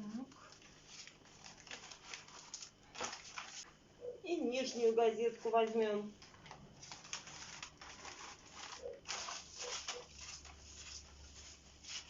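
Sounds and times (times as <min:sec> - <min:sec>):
newspaper rustling on glass: 0:00.4 - 0:03.7, 0:04.6 - 0:12.0.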